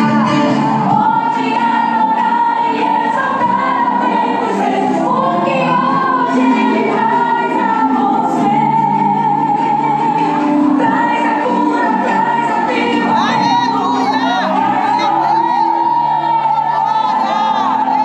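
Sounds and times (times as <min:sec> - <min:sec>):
gospel song with choir: 0:00.0 - 0:18.0.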